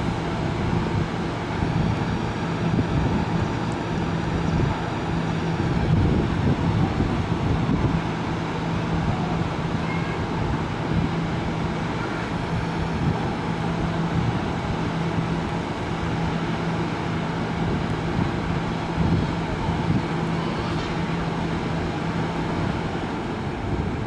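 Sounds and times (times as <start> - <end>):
train steady low hum: 0.0 - 24.0
wind rumbling on microphone: 0.0 - 24.0.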